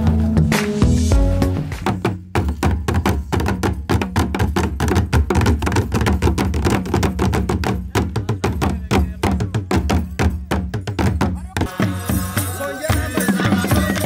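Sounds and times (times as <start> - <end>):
drums beaten with sticks: 0.0 - 14.0.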